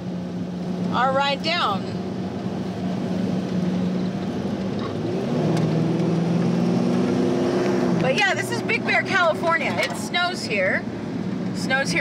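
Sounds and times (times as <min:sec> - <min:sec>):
car engine running from inside cabin: 0:00.0 - 0:12.0.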